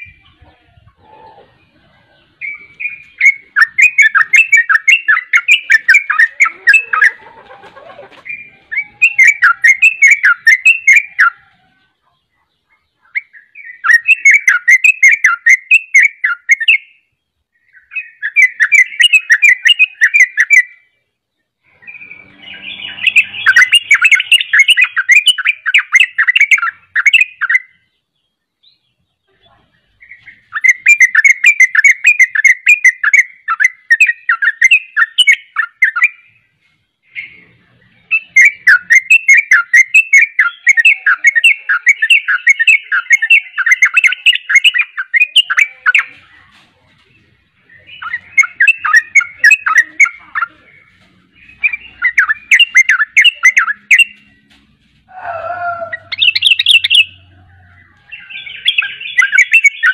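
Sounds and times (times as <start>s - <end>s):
bird chattering song: 0.0s - 54.6s, 55.4s - 59.9s.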